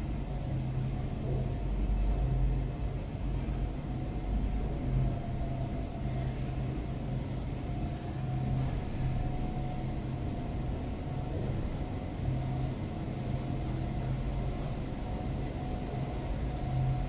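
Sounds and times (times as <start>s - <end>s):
elevator car rumbling: 0.0s - 17.0s
faint constant hum: 0.0s - 17.0s.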